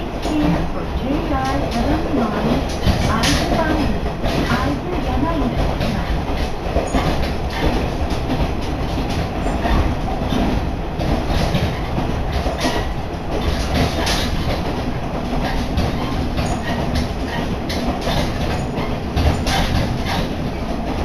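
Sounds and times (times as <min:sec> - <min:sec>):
railcar low rumble: 0:00.0 - 0:21.0
wheels clicking over rail joints: 0:00.0 - 0:21.0.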